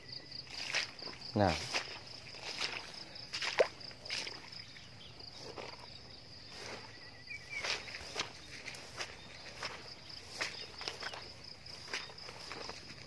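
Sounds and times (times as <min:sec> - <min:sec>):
crickets and insects droning: 0:00.0 - 0:13.0
footsteps in wet grass and mud: 0:00.0 - 0:13.0.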